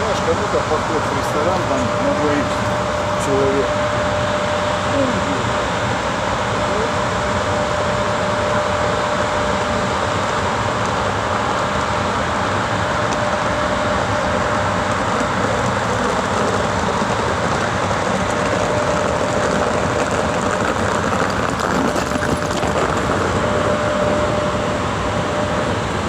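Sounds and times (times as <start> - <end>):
thin steady whine: 0.0 - 26.0
train rumbling and humming: 0.0 - 26.0.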